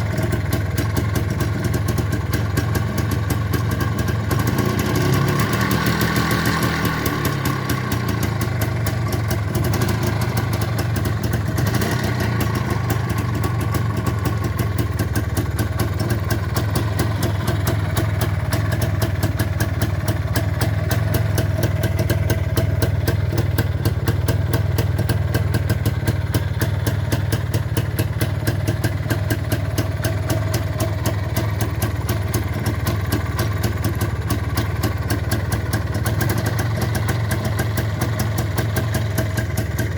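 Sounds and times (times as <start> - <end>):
two-stroke motorcycle engine idling: 0.0 - 39.9.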